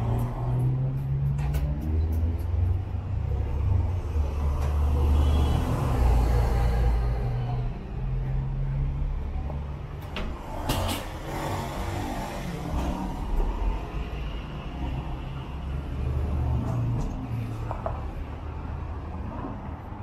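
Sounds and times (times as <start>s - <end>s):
light traffic noise: 0.0s - 20.0s
passing vehicle engine rumble: 0.0s - 20.0s.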